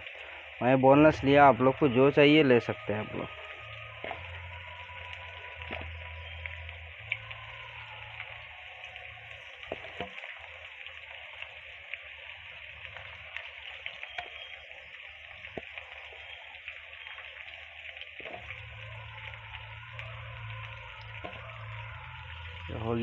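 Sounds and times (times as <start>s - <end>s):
hot oil sizzling and crackling: 0.0s - 23.0s.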